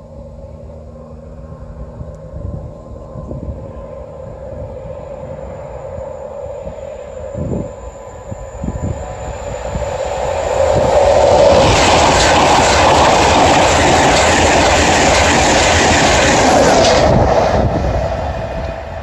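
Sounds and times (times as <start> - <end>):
train approaching: 0.0 - 19.0.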